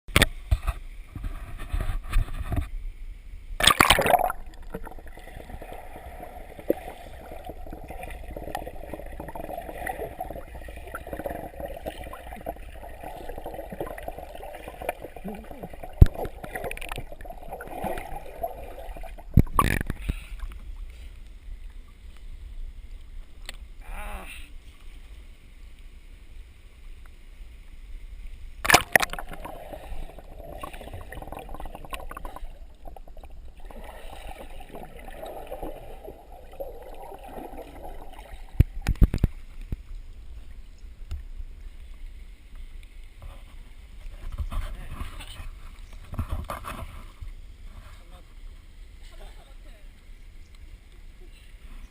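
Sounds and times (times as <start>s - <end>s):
stream water sloshing and gurgling: 0.1s - 2.8s, 3.5s - 23.9s, 24.5s - 51.9s.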